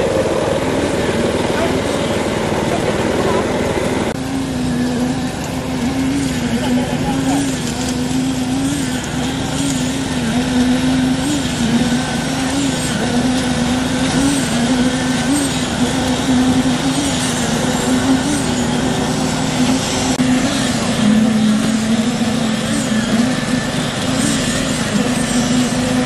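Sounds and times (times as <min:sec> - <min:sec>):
engine droning: 0:00.0 - 0:26.0.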